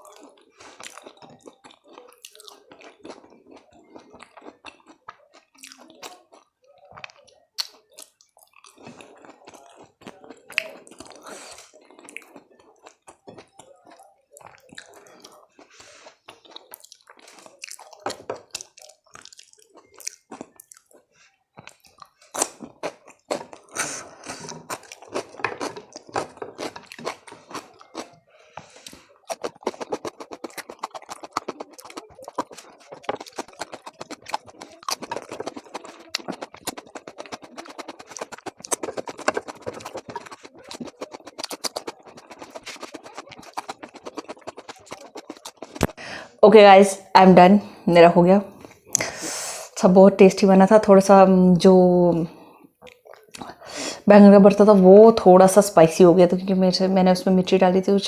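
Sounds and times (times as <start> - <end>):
person chewing food: 0.0 - 46.4, 48.4 - 49.7, 52.1 - 54.1.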